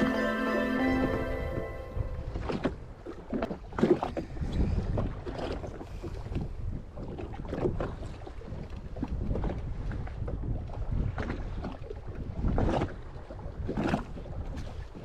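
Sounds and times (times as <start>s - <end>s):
wind buffeting microphone: 0.0s - 15.0s
water slapping against hull: 2.2s - 15.0s.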